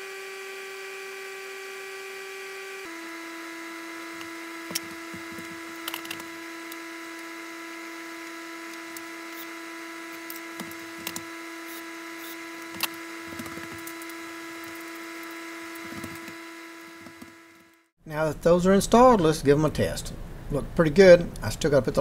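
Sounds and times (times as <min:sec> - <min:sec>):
electrical hum with high whine: 0:00.0 - 0:22.0.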